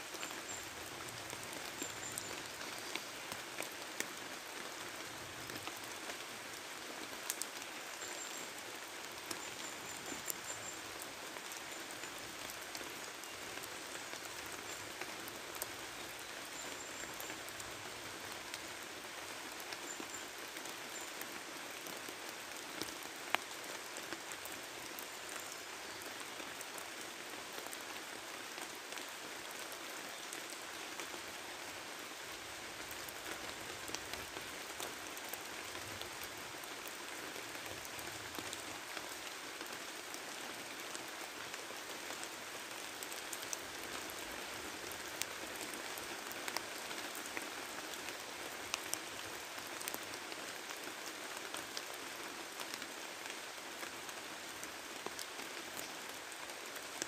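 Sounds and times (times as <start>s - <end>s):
rain falling in a forest: 0.0s - 57.0s.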